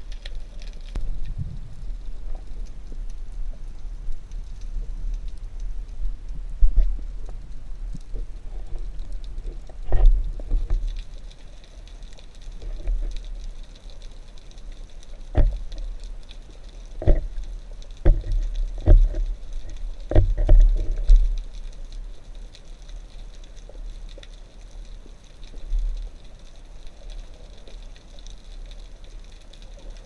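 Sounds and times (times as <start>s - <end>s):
faint steady crackle: 0.0s - 30.0s
underwater rumble of moving water: 0.0s - 30.0s.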